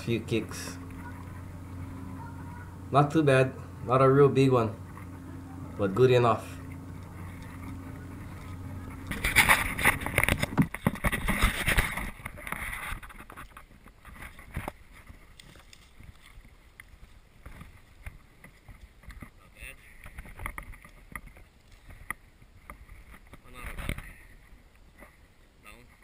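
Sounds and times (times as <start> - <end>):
dry brush rustling and scraping: 4.4 - 25.2.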